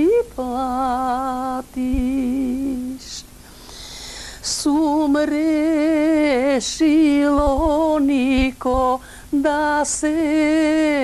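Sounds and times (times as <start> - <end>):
woman singing unaccompanied: 0.0 - 3.4, 4.4 - 11.0.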